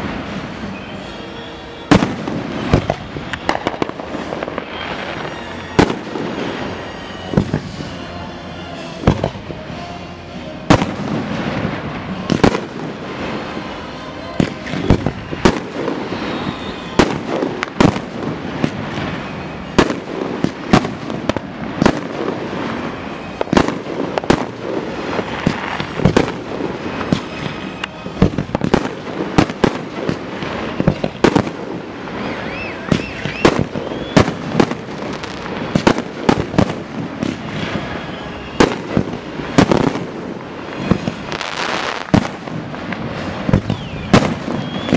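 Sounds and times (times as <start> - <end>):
fireworks bursting with sharp bangs: 0.0 - 44.9.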